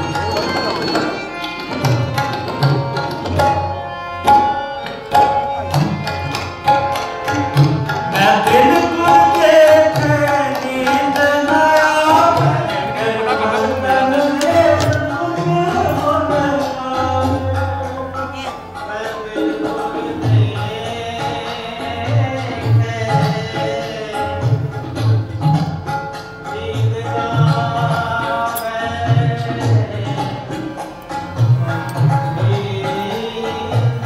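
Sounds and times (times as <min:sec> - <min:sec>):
tabla steady rhythm: 0:00.0 - 0:34.0.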